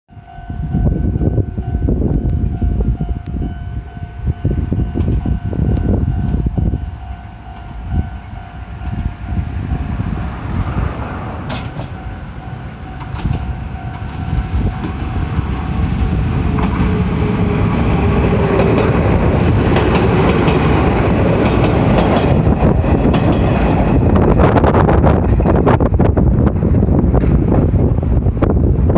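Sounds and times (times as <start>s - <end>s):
train rumbling past: 0.1s - 28.9s
wind gusts on microphone: 0.1s - 28.9s.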